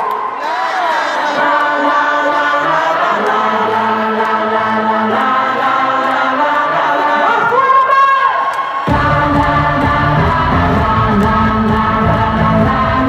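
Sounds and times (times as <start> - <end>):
live pop music with singing: 0.2 - 13.0.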